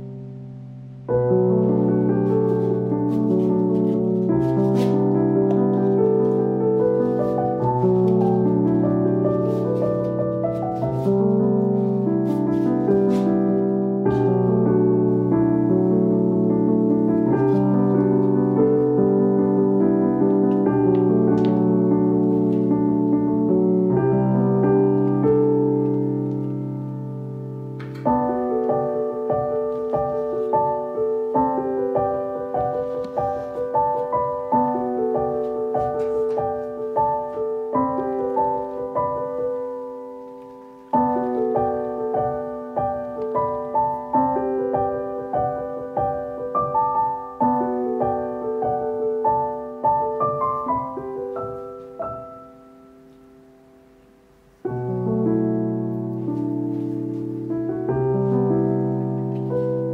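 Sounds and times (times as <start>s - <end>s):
solo piano: 0.0s - 59.9s.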